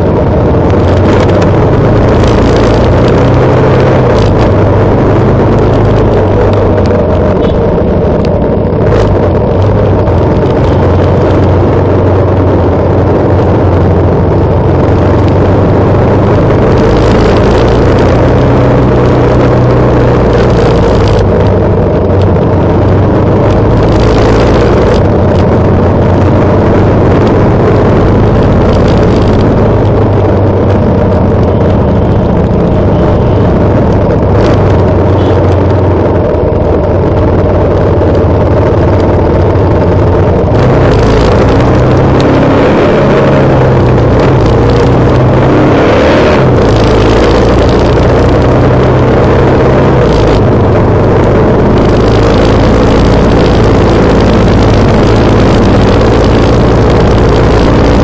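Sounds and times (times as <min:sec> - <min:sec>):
motorcycle engines running: 0:00.0 - 0:58.0
wind rushing over microphone: 0:00.0 - 0:58.0.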